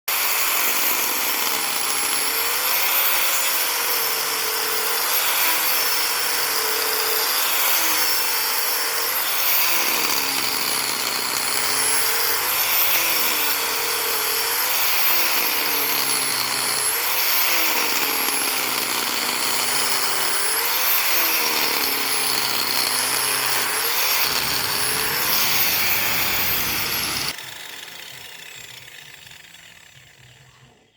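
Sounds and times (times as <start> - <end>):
electric power tool running: 0.1 - 30.7.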